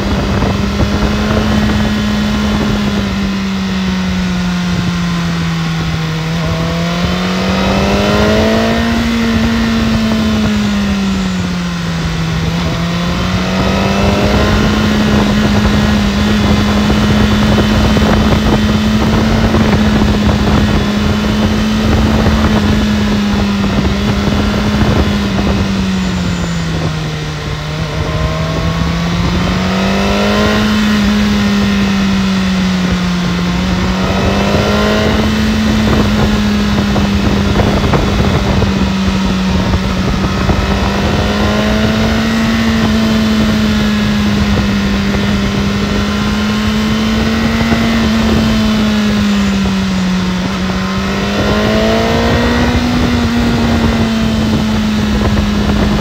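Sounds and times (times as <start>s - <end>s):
motorcycle engine running: 0.0s - 56.0s
rising whining tones: 0.0s - 56.0s
wind noise: 0.0s - 56.0s.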